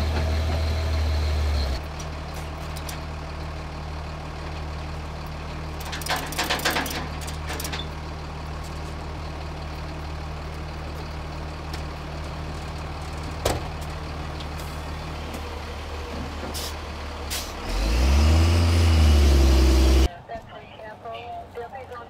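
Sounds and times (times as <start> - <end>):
truck engine idling and revving: 0.0 - 20.1.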